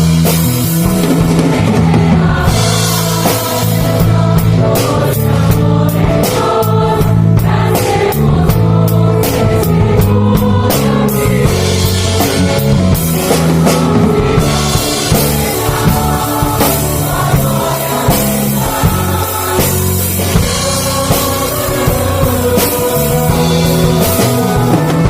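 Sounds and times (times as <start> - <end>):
band with bass and chords: 0.0 - 25.0
group singing praise song: 0.0 - 25.0
steady drum beat: 0.0 - 25.0.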